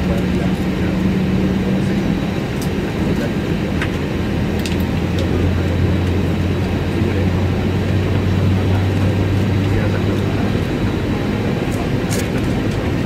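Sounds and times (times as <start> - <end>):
deeper hum: 0.0 - 13.0
low hum of aircraft systems: 0.0 - 13.0.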